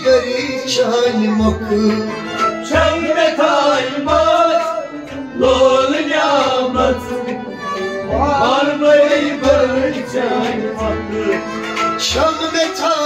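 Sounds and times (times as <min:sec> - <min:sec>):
instrumental accompaniment: 0:00.0 - 0:13.0
man singing devotional song: 0:00.0 - 0:13.0.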